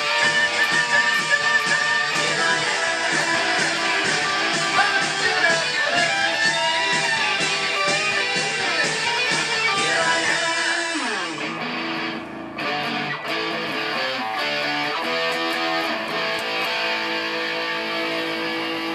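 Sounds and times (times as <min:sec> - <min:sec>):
distorted electric guitar: 0:00.0 - 0:18.9.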